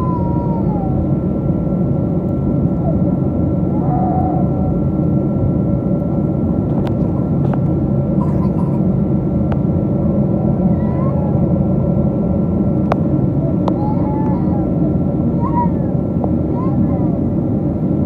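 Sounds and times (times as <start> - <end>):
airliner cabin rumble: 0.0 - 18.0
thin steady whine: 0.0 - 18.0.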